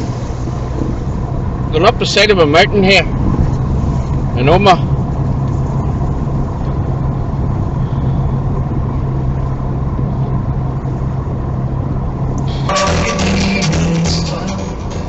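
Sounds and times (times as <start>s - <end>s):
car engine hum: 0.0s - 15.0s
road and tyre rumble: 0.0s - 15.0s.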